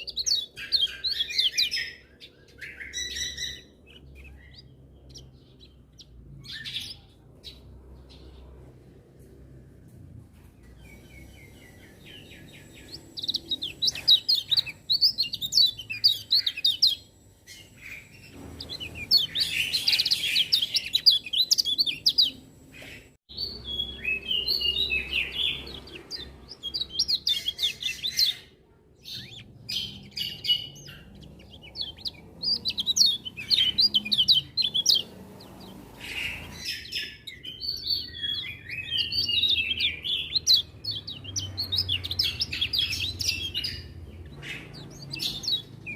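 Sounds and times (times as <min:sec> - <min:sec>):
bird high twittering song: 0:00.0 - 0:09.6, 0:10.4 - 0:45.9.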